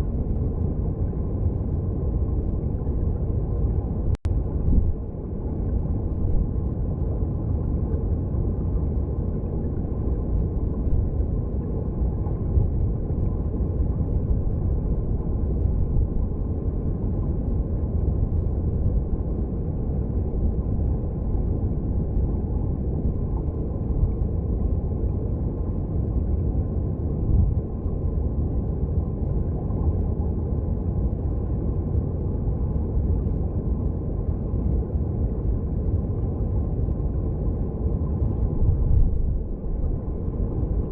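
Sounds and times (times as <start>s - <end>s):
muffled underwater water rumble: 0.0s - 40.9s.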